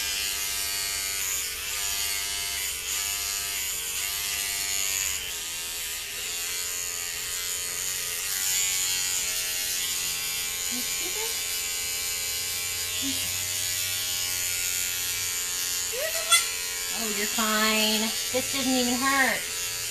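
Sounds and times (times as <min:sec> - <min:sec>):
hair clippers buzzing: 0:00.0 - 0:19.9.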